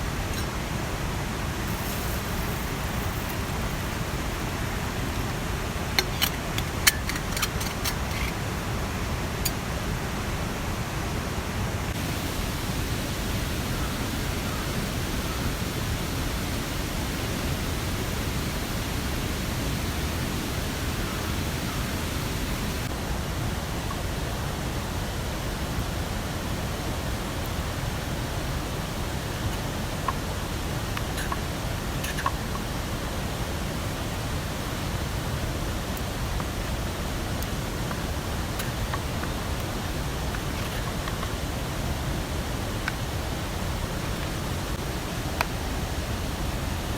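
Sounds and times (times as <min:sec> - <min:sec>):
rushing water: 0:00.0 - 0:46.9.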